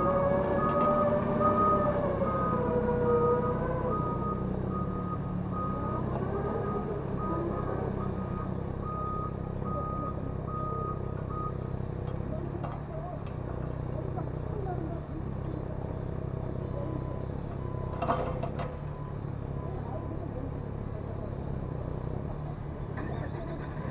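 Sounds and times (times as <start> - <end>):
diesel engines humming: 0.0 - 23.9
excavator alarm beeping: 0.0 - 23.9.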